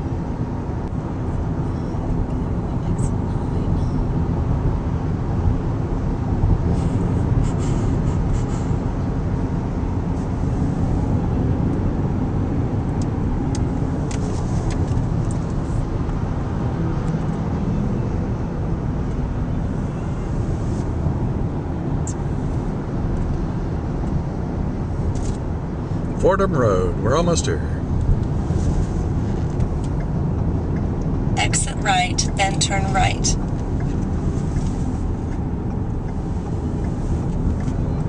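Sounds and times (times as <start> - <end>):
car road and engine noise: 0.0 - 38.0.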